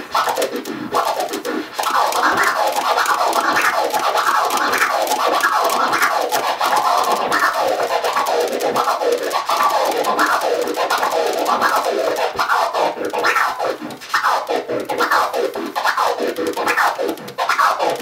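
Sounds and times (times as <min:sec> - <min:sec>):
turntable scratching: 0:00.0 - 0:18.0.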